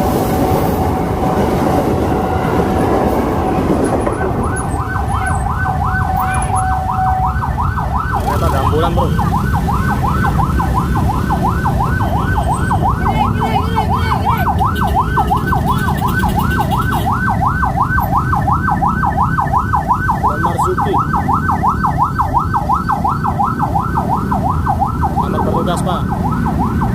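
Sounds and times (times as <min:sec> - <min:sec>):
low rumble of traffic: 0:00.0 - 0:26.9
electronic siren yelping: 0:00.8 - 0:26.9.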